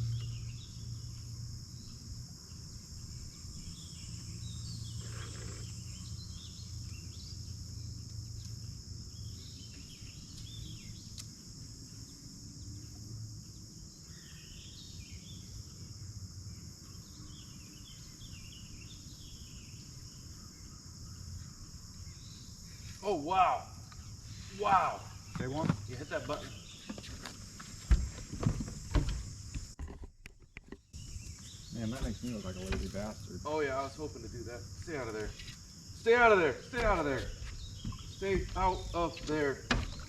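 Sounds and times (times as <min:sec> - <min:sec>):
insects chorus: 0:00.0 - 0:40.0.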